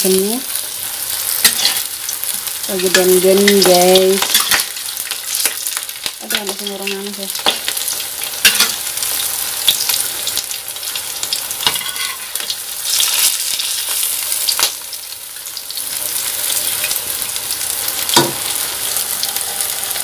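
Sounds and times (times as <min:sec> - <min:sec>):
frying in hot oil: 0:00.0 - 0:20.0.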